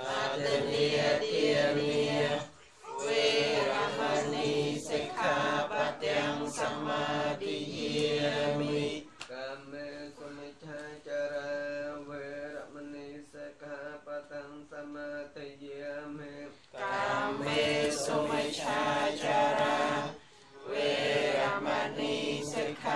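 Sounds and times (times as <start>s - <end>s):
voices chanting together: 0.0s - 22.9s.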